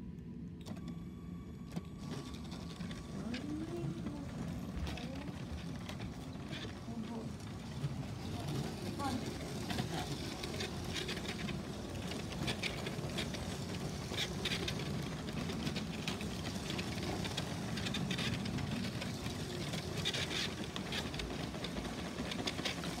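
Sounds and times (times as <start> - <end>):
toy train rumbling on track: 0.8 - 23.0
light track clicks: 1.6 - 23.0.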